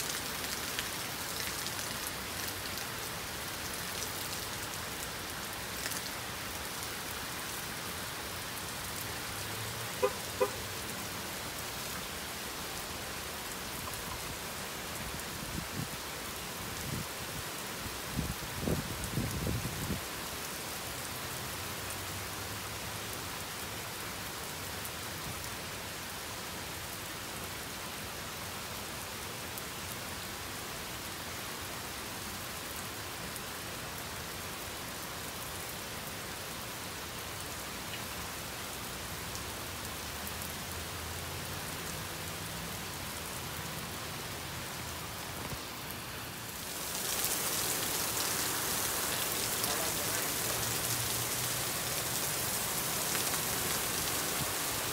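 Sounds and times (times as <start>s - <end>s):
heavy rain on pavement: 0.0s - 54.9s.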